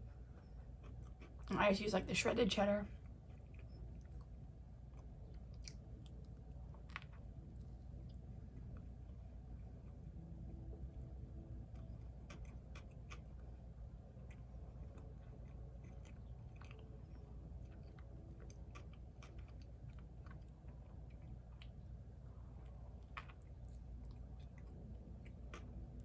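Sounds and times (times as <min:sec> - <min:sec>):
person chewing a sandwich: 0:00.0 - 0:01.5, 0:02.9 - 0:10.6, 0:11.3 - 0:26.0.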